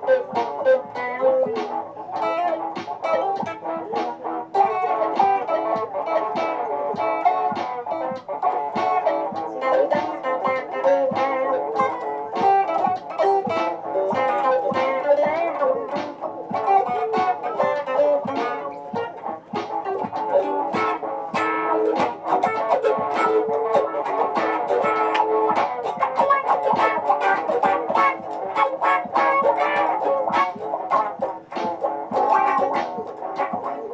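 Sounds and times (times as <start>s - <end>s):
layered guitars playing: 0.0s - 33.9s.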